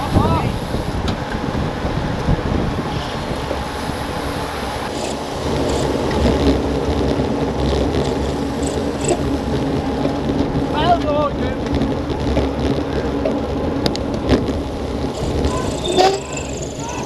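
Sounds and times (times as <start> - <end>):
bike tyres whirring on asphalt: 0.0 - 17.0
wind buffeting microphone: 0.0 - 17.0.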